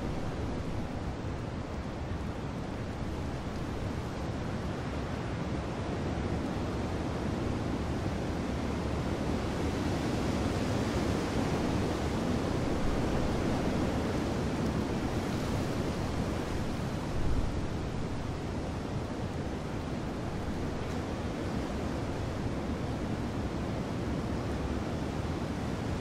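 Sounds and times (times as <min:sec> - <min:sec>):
rushing wind: 0:00.0 - 0:26.0.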